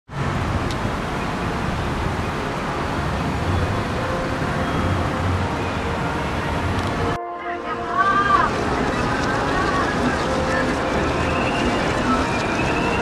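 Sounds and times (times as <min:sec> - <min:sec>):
road traffic rumble: 0:00.1 - 0:13.0.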